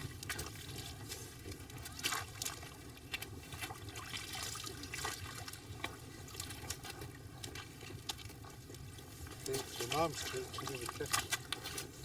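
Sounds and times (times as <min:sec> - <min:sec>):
ice and slush clicking: 0:00.0 - 0:12.0
water trickling and splashing: 0:00.0 - 0:12.0.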